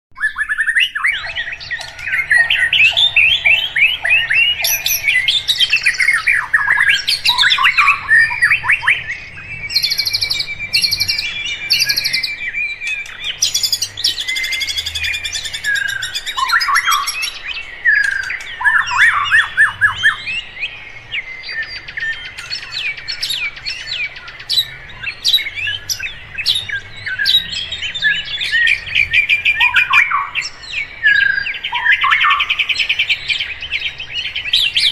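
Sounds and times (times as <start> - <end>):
birds singing and chirping: 0.1 - 34.9.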